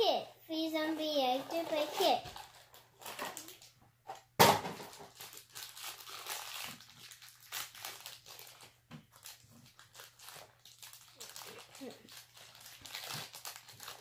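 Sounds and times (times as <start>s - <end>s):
plastic bag crinkling: 1.5s - 3.8s, 4.8s - 14.0s.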